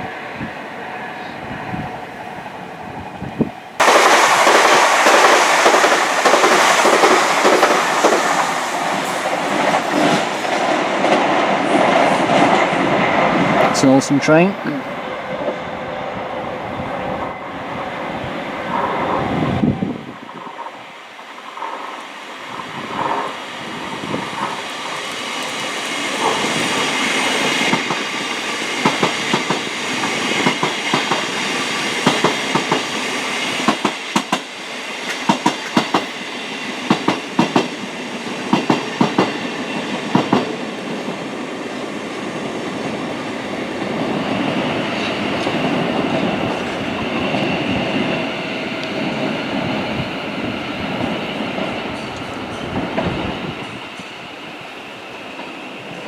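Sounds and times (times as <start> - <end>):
train passing at speed: 0.0 - 56.0.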